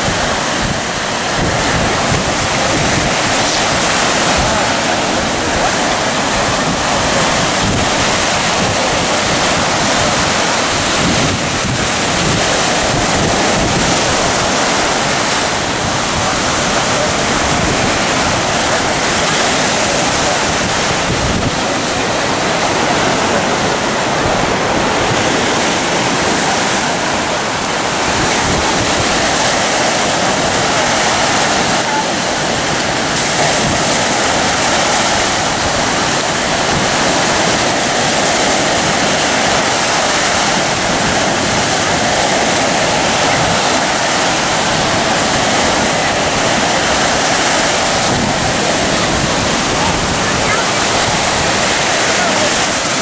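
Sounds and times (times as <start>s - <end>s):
waves breaking on beach: 0.0s - 53.0s
wind buffeting microphone: 0.0s - 53.0s.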